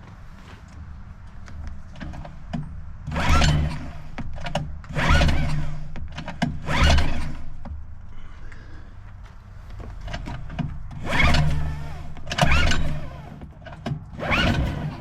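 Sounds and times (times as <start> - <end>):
recoil starter pulls: 0.4 - 15.0.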